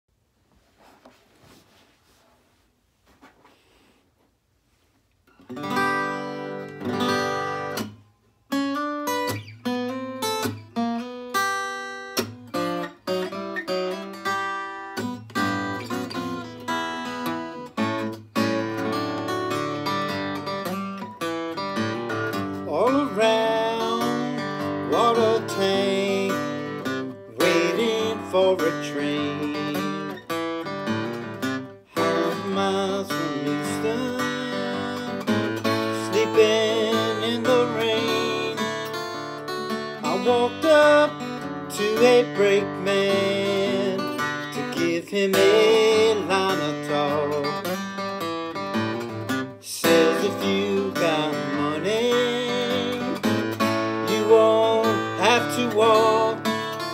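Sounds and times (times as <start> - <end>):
acoustic guitar playing: 4.7 - 56.9.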